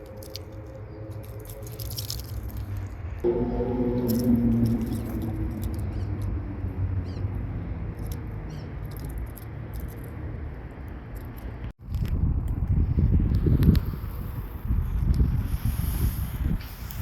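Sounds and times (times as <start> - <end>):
wind rumble on microphone: 0.0 - 8.7, 11.6 - 17.0.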